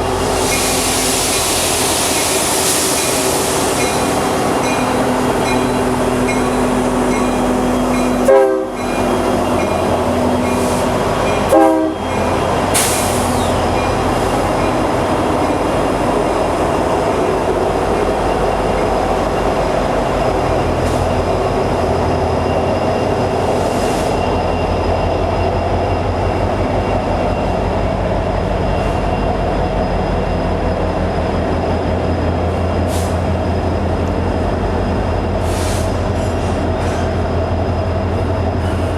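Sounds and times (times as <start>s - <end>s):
freight train rumbling by: 0.0s - 38.9s.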